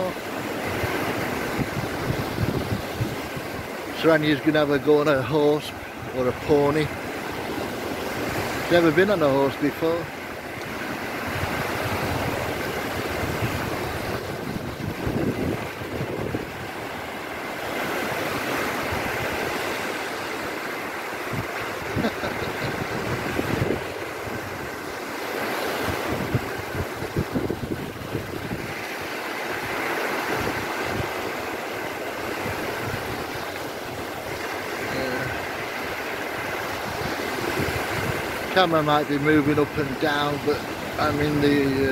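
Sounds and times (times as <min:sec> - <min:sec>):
wind buffeting microphone: 0:00.0 - 0:04.5, 0:09.9 - 0:41.9
small waves breaking: 0:00.0 - 0:41.9.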